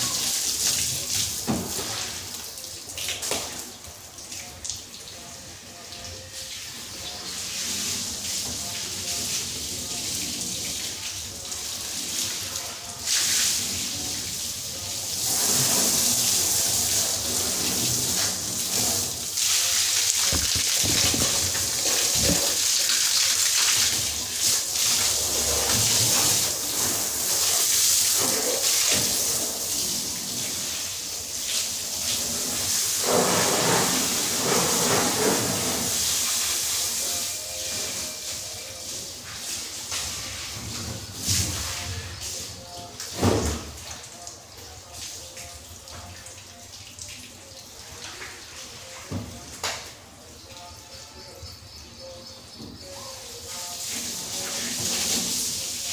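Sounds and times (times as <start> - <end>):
hose water spraying on car: 0.0 - 5.4, 6.2 - 50.5, 53.2 - 55.9.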